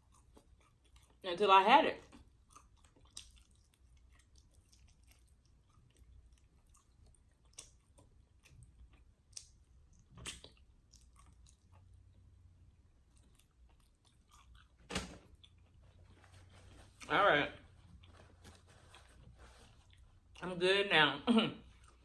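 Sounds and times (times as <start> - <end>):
person chewing: 0.0 - 1.2, 2.1 - 20.4, 21.6 - 22.0.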